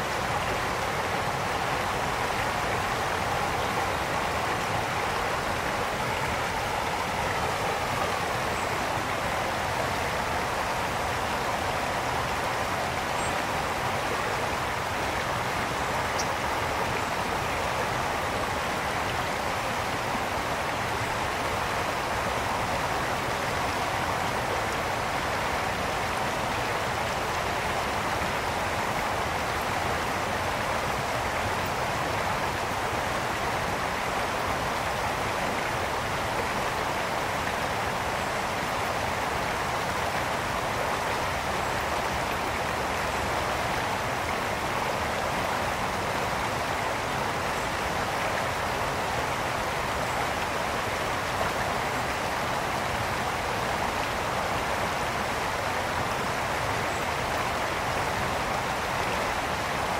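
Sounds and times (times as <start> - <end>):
brook flowing over stones: 0.0 - 59.9.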